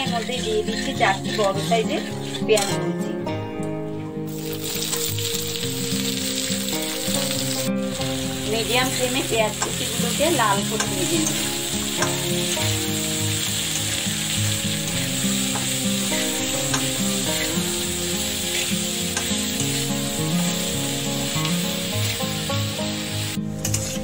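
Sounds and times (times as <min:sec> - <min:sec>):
onions sizzling in hot oil: 0:00.0 - 0:02.8, 0:04.3 - 0:24.0.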